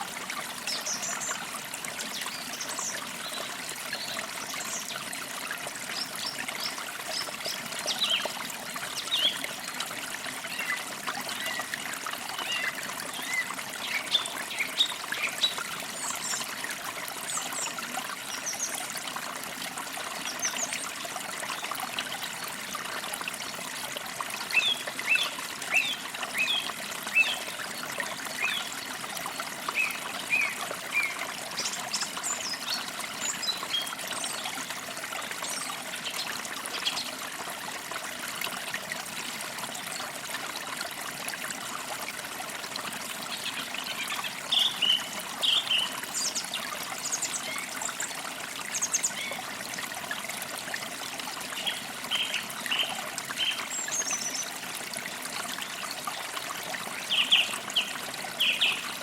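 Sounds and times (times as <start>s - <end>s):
creek water babbling: 0.0s - 59.0s.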